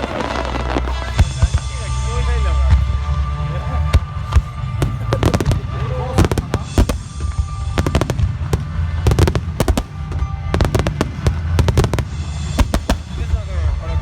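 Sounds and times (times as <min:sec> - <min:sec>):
faint music: 0:00.0 - 0:14.0
faint voices: 0:00.0 - 0:14.0
fireworks bangs and crackles: 0:00.0 - 0:14.0.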